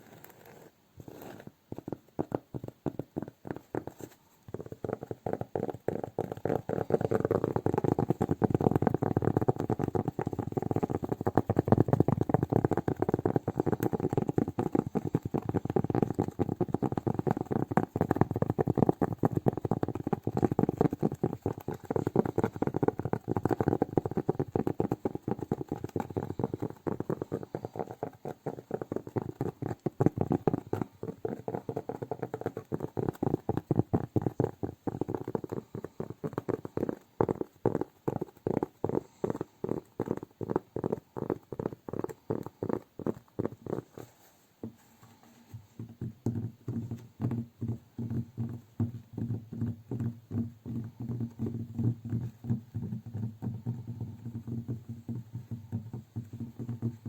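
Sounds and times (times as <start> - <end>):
fingertips tapping on cork: 0.0 - 57.0.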